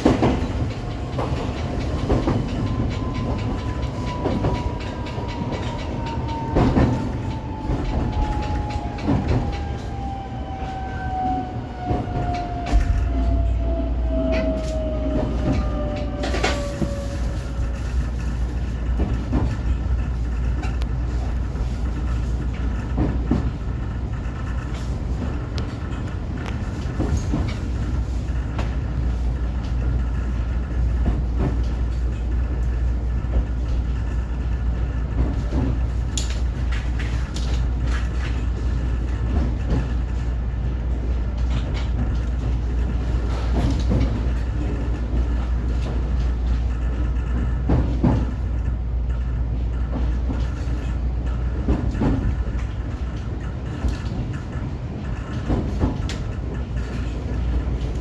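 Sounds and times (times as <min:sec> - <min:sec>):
wheels clicking on rails: 0:00.0 - 0:10.2, 0:11.8 - 0:58.0
electric train rumble and hum: 0:00.0 - 0:58.0.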